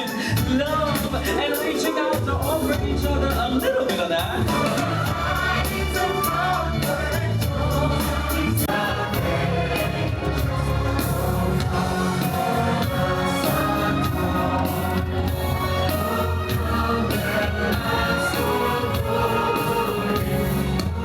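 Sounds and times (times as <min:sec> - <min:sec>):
choir singing: 0:00.0 - 0:21.0
instrumental accompaniment: 0:00.0 - 0:21.0.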